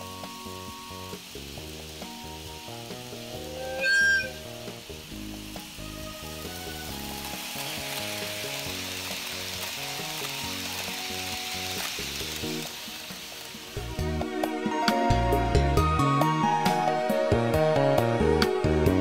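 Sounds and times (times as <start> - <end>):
background music: 0.0 - 19.0
model train rolling hiss: 0.0 - 19.0.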